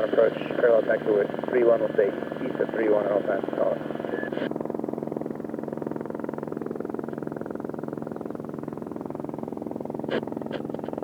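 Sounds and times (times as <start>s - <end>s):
helicopter rotor and turbine: 0.0s - 11.0s.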